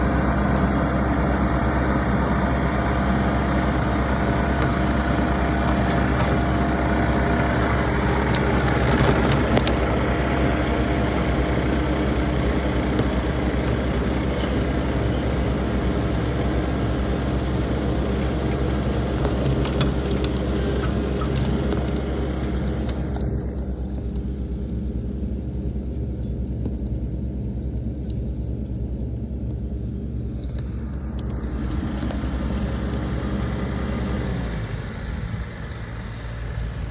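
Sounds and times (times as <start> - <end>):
mower cutting grass: 0.0 - 23.8, 30.7 - 36.8
tractor diesel engine running: 0.0 - 36.9.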